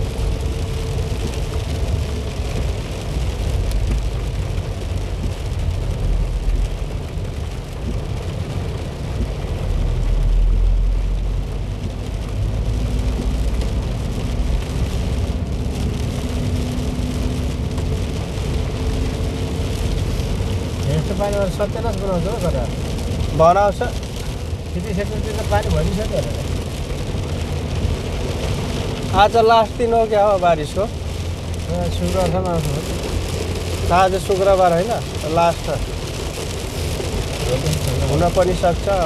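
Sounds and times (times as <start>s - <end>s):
car engine and tyres on wet road: 0.0s - 39.0s
heavy rain pelting car: 0.0s - 39.0s.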